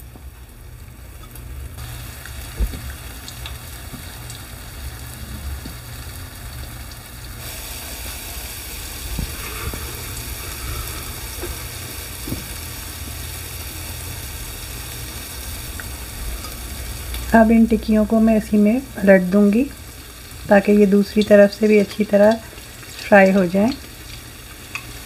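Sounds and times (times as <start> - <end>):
fritters sizzling in hot oil: 0.0 - 25.0.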